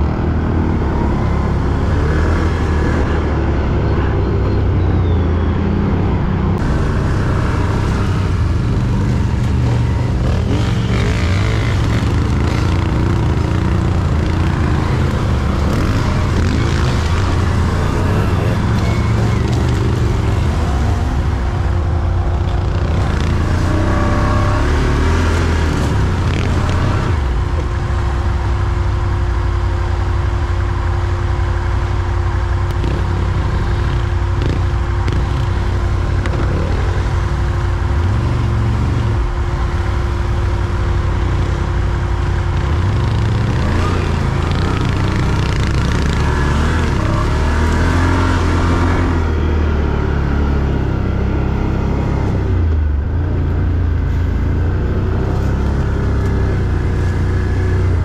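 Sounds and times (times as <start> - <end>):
quad bike engine drone: 0.0 - 58.0.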